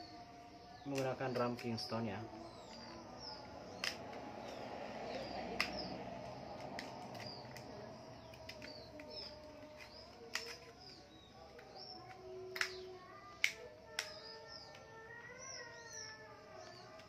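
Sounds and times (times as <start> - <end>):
small birds chirping: 0.0 - 17.0
sharp plastic clicks: 0.9 - 14.9.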